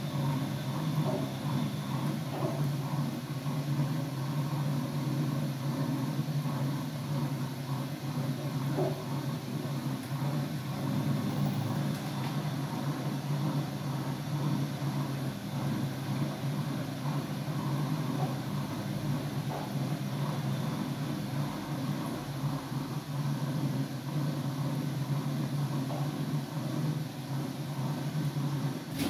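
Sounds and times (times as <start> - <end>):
washing machine humming: 0.0 - 29.0.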